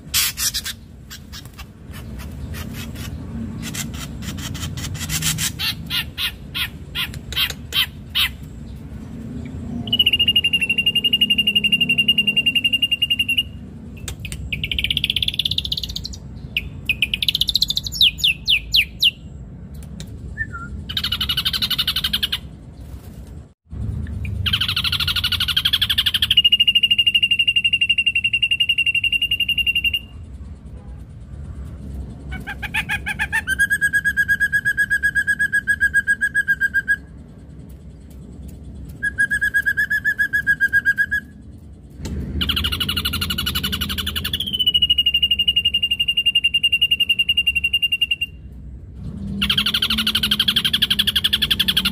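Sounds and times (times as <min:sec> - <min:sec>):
bird singing varied song: 0:00.0 - 0:23.0, 0:23.9 - 0:30.2, 0:32.1 - 0:51.9.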